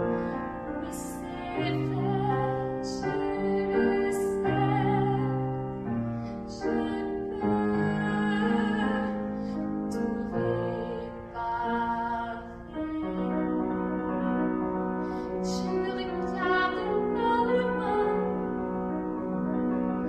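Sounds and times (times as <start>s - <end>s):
piano accompaniment: 0.0s - 20.0s
woman singing slow song: 0.7s - 14.7s, 15.4s - 18.8s.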